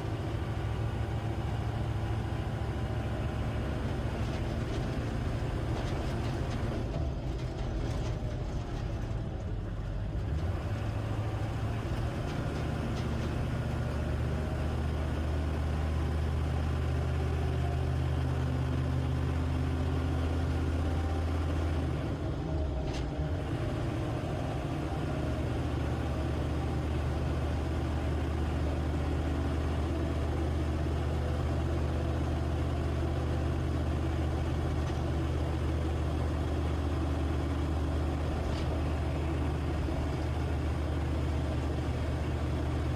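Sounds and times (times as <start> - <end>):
diesel engine droning: 0.0 - 42.9.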